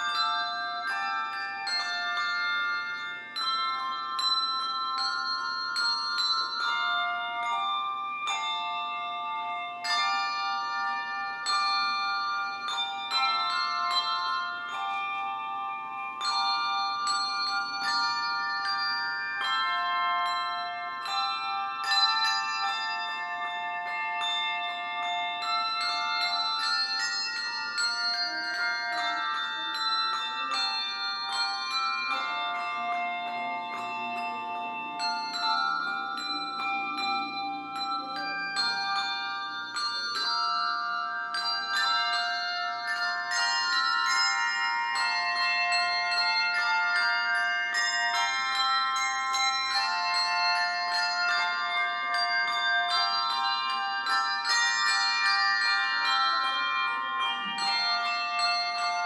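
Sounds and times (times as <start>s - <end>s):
handbell choir playing: 0.0s - 59.0s.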